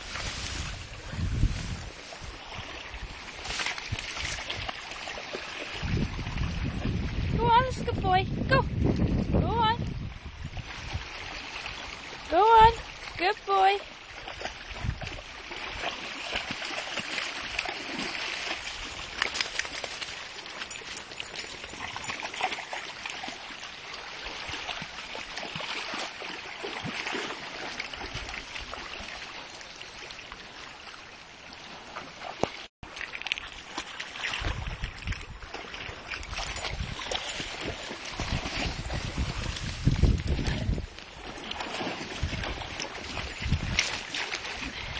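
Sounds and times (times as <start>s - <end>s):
water splashing from wading dogs: 0.0s - 44.9s.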